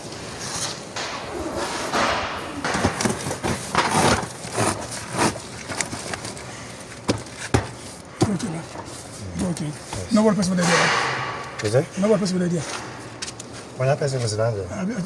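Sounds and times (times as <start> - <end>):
hard objects knocking and scraping: 0.6 - 13.5.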